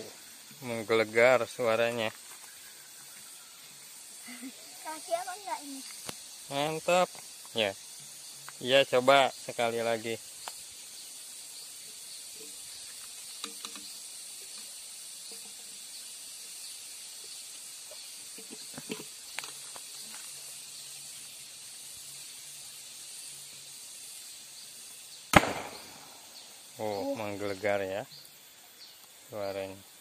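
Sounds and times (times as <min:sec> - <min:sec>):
steady high outdoor hiss: 0:00.0 - 0:30.0.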